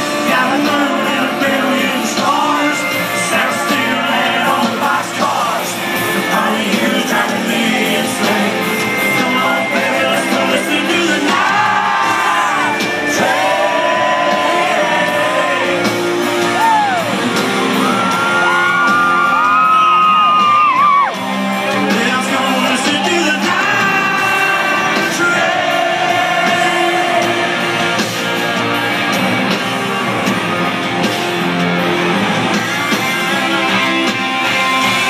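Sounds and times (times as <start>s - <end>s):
live country band playing: 0.0s - 35.0s.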